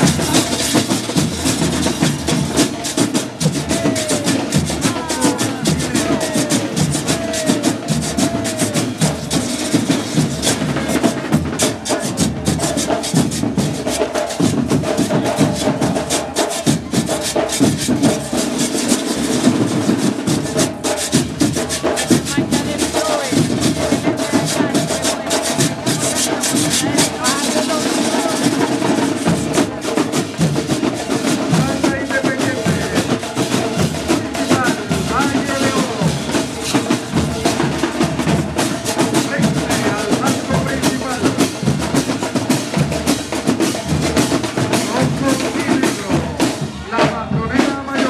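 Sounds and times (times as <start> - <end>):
drums being struck: 0.0 - 48.0.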